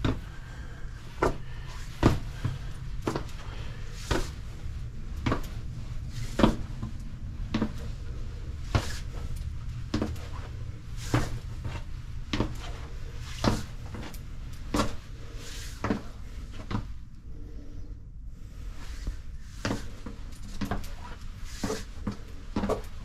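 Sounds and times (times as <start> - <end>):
footsteps on staircase: 0.0 - 17.0, 19.0 - 23.0
low rumble: 0.0 - 21.5.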